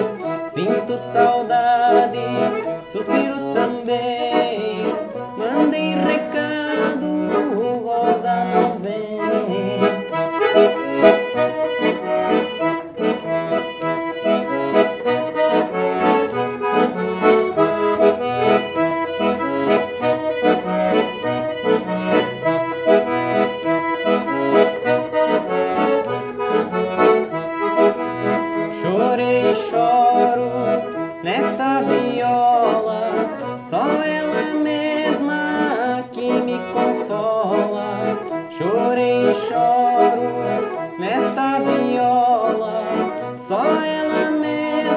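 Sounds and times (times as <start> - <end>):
accordion playing: 0.0 - 44.9.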